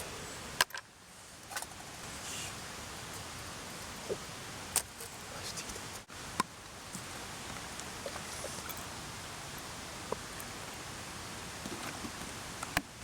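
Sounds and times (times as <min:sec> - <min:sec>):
mountain stream rushing: 0:01.8 - 0:13.0.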